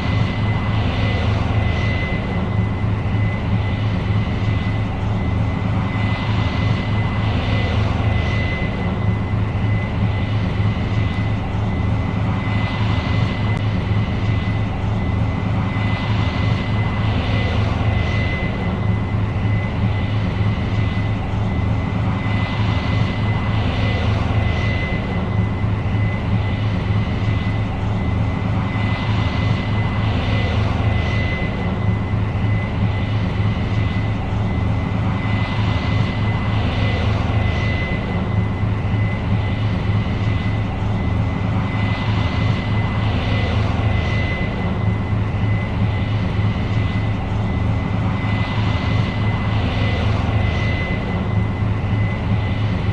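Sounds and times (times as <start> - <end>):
deep engine drone: 0.0 - 52.9
high-pitched whine: 0.0 - 52.9.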